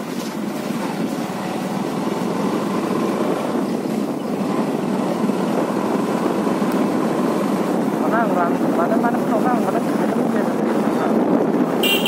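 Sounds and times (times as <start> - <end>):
motorcycle running: 0.0 - 12.0
wind noise on microphone: 0.0 - 12.0.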